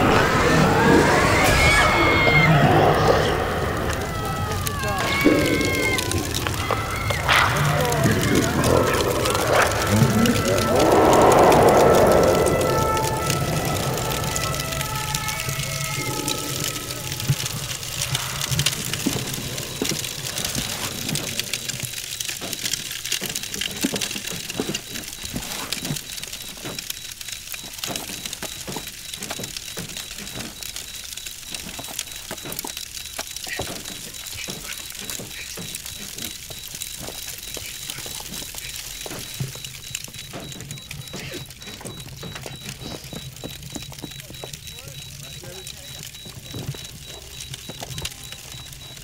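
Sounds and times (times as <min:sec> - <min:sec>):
fire crackling and popping: 0:00.0 - 0:49.0.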